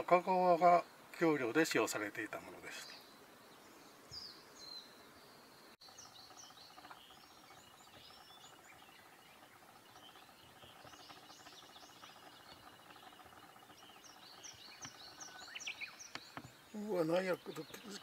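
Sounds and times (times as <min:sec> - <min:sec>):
faint small birds chirping: 0:00.0 - 0:18.0.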